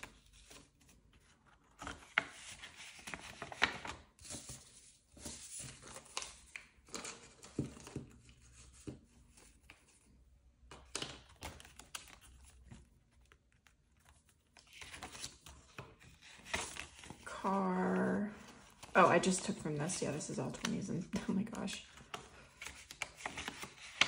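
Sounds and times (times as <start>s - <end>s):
banknotes and plastic envelopes rustling: 0.0s - 24.0s.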